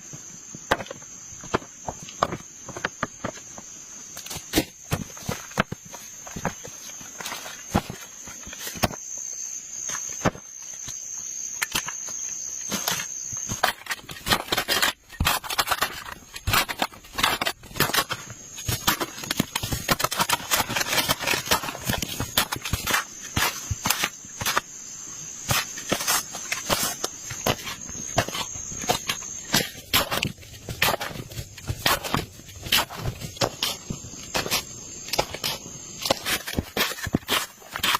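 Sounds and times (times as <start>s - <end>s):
insects trilling: 0.0s - 37.9s
sharp knocks crackles and scrapes: 0.0s - 37.9s.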